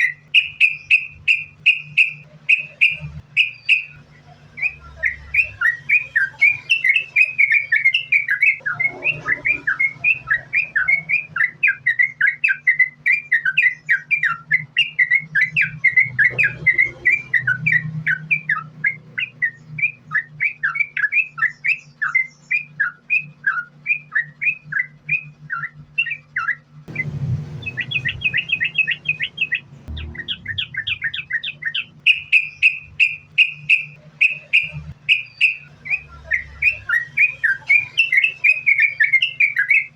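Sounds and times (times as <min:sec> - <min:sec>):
bird singing chattering notes: 0:00.0 - 0:39.9
steady low hum: 0:00.0 - 0:39.9.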